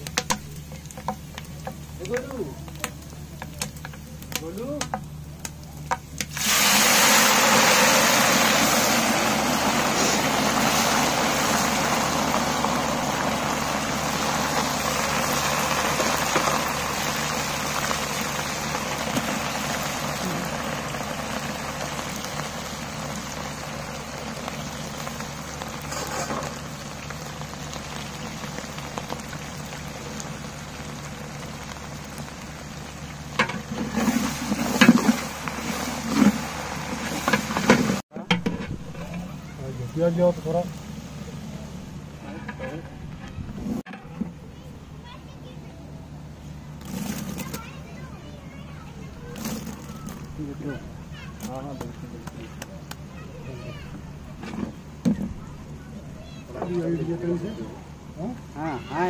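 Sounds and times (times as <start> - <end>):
hot oil sizzling in a pot: 0.0 - 42.9, 46.2 - 59.0.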